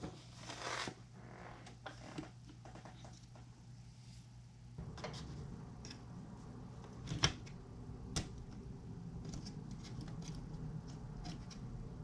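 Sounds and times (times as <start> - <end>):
steady low hum: 0.9 - 12.0.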